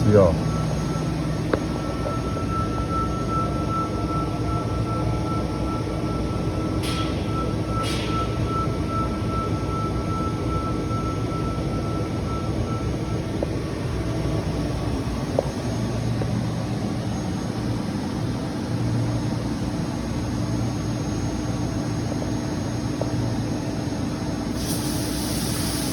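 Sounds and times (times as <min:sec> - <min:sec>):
steady hum: 0:00.0 - 0:25.9.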